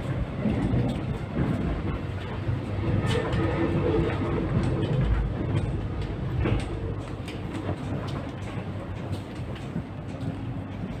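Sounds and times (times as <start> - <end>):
train rumble: 0.0 - 11.0
wheels clicking on rails: 0.0 - 11.0.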